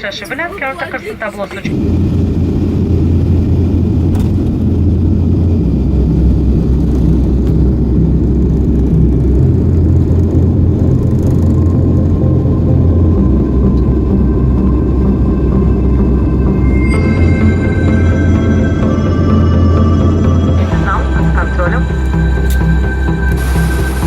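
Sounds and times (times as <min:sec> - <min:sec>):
loud low rumble: 0:01.6 - 0:24.0.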